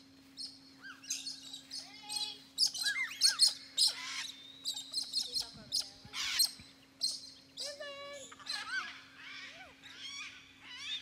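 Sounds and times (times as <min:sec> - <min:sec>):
birds chirping and whistling: 0:00.4 - 0:11.0
harsh rasping bird calls: 0:00.7 - 0:11.0.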